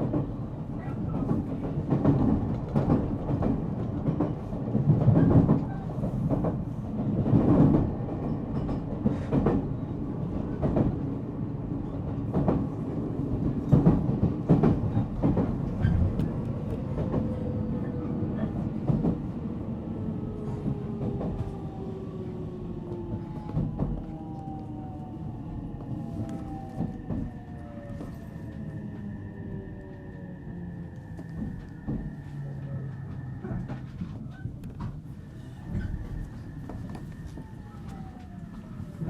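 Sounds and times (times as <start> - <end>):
train rumbling along rails: 0.0 - 39.0.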